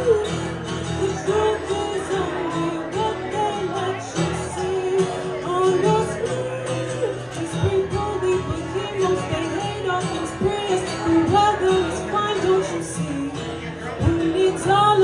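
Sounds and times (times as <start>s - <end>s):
acoustic guitar: 0.0s - 15.0s
woman singing into a microphone: 0.0s - 15.0s.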